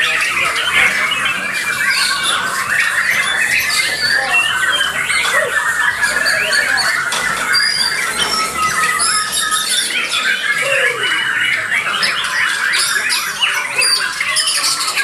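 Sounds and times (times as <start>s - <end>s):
many songbirds singing: 0.0s - 15.0s.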